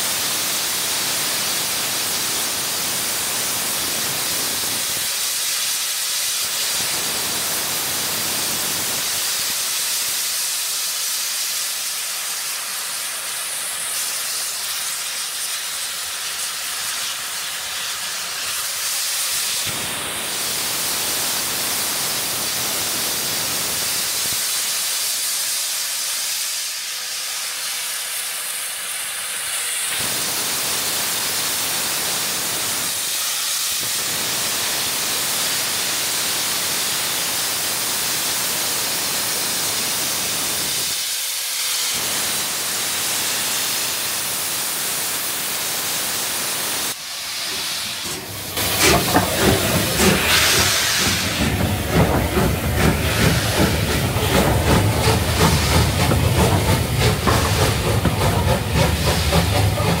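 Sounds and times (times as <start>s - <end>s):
steam hissing from locomotive: 0.0s - 60.0s.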